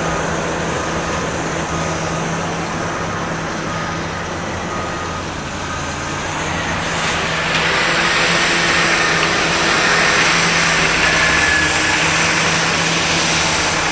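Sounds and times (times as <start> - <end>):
machine engine humming and roaring: 0.0 - 13.9.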